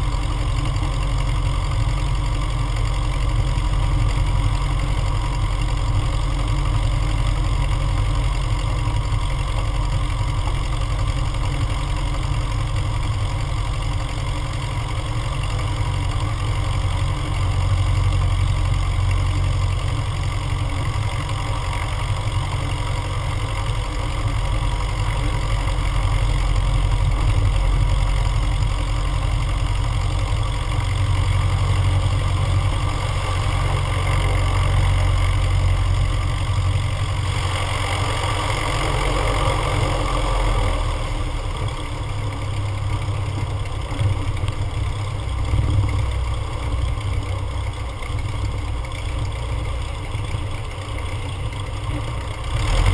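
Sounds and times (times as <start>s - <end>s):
light aircraft engine droning: 0.0s - 52.6s.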